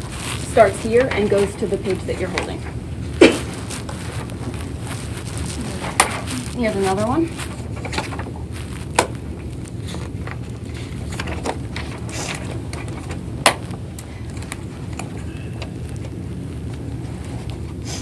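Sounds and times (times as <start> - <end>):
pages rustling: 0.0 - 17.8
low recording hum: 0.0 - 18.0.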